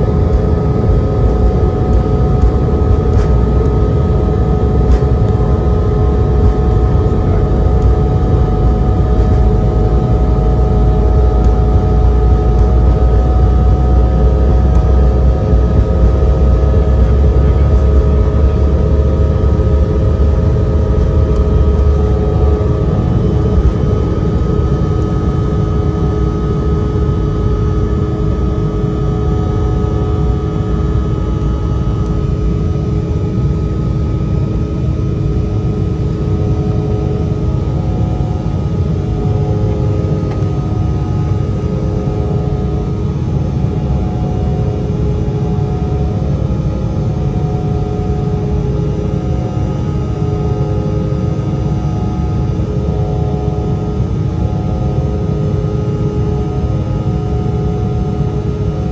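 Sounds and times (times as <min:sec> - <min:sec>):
jet engines roaring with whining tones: 0:00.0 - 0:58.9.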